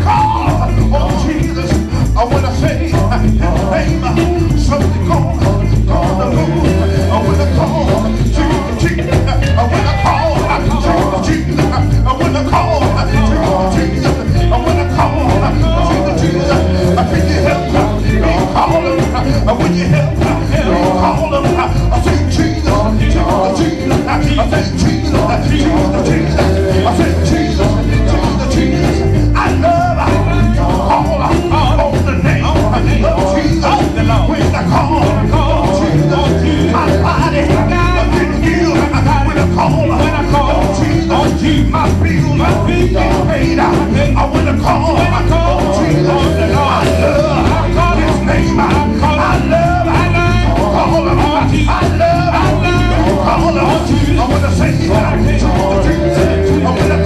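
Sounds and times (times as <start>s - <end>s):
live gospel band: 0.0s - 57.0s
voices singing: 0.0s - 57.0s.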